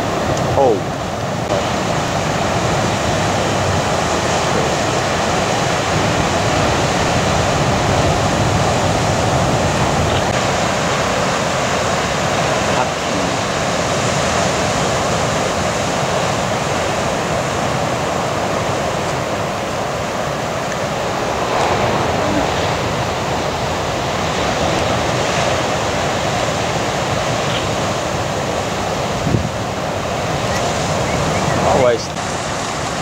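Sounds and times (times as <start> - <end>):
ocean surf washing: 0.0 - 33.0.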